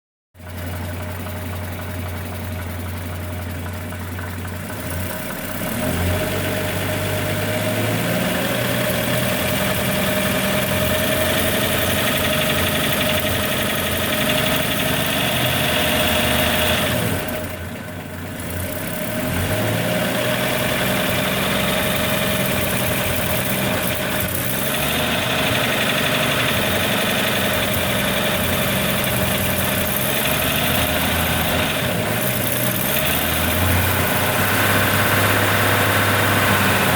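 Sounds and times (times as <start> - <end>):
car engine running: 0.4 - 36.9.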